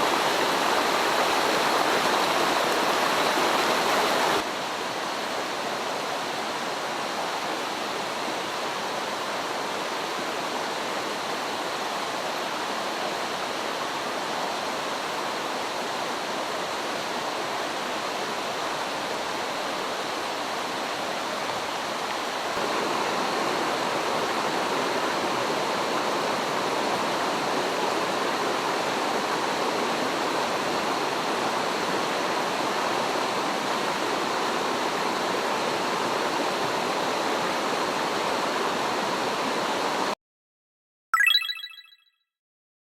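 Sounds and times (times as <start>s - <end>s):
stream rushing over rocks: 0.0s - 40.1s.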